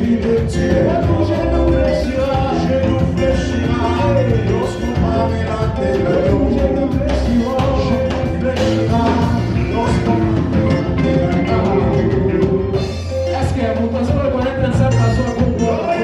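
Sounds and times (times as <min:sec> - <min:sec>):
gospel band playing: 0:00.0 - 0:16.0
people singing: 0:00.0 - 0:16.0.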